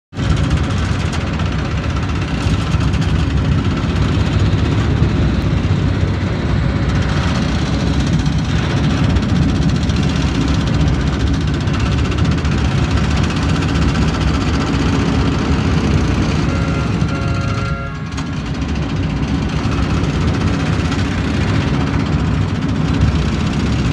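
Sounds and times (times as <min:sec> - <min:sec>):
diesel engine running: 0:00.2 - 0:23.9.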